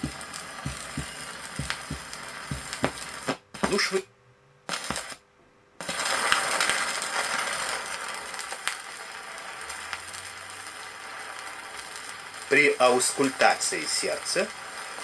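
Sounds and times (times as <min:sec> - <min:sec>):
vinyl record hiss with clicks: 0:00.0 - 0:04.1, 0:04.7 - 0:15.0.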